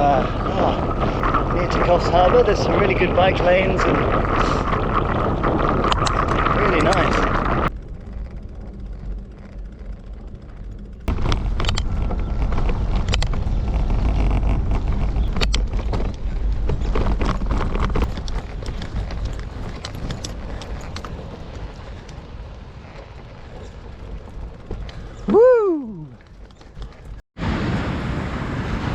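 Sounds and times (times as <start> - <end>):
wind rushing over microphone: 0.0 - 26.2, 27.4 - 28.9
bicycle tyre noise: 0.0 - 27.2
clicks and rattles: 0.1 - 25.3.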